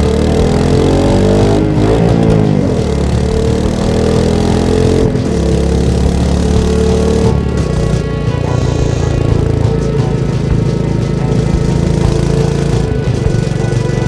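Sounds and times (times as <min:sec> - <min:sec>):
motorcycle engine and exhaust: 0:00.0 - 0:14.0.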